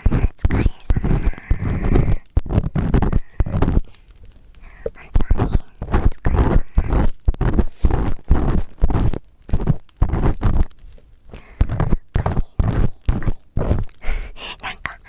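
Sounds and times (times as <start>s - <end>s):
ear pick scraping: 0.0s - 4.0s, 4.8s - 14.0s.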